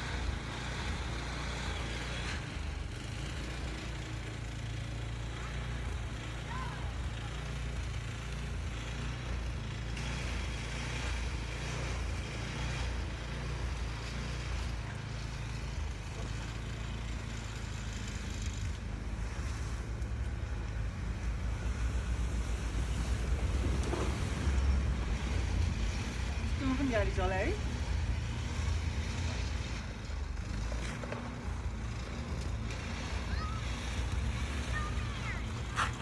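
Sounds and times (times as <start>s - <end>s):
moving car rumble: 0.0s - 36.0s.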